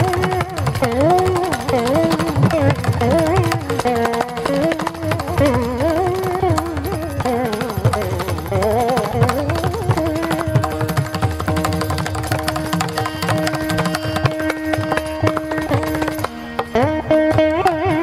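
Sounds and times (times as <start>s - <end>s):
hand drum strokes: 0.0s - 18.0s
veena melody with pitch bends: 0.0s - 18.0s.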